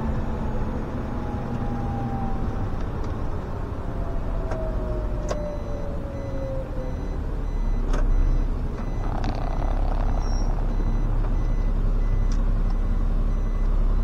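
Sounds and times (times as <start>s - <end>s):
bus engine rumble and whine: 0.0s - 14.0s.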